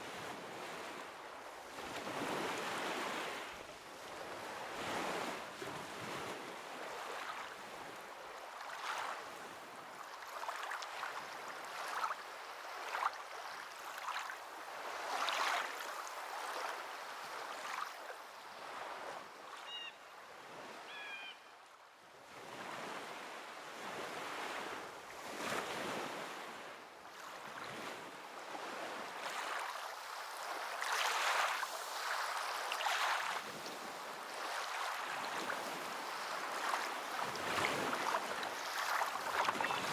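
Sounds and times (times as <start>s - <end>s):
waves washing onto shore: 0.0s - 19.0s, 24.1s - 39.9s.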